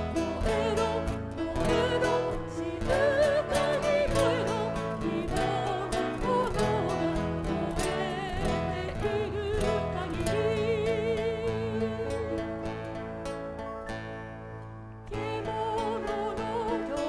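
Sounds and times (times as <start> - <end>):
person singing with vibrato: 0.0 - 12.6, 15.1 - 17.0
piano accompaniment: 0.0 - 16.9.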